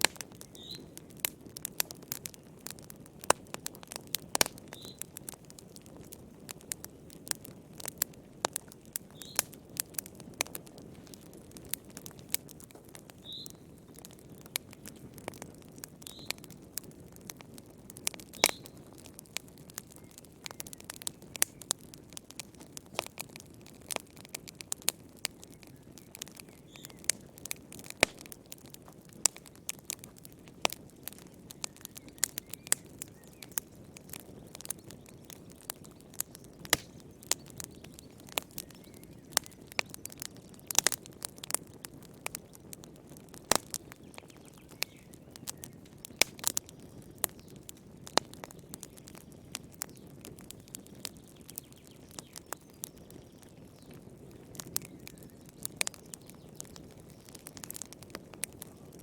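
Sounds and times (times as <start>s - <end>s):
low rush of burning: 0.0s - 51.8s
fire crackling and popping: 0.0s - 59.0s.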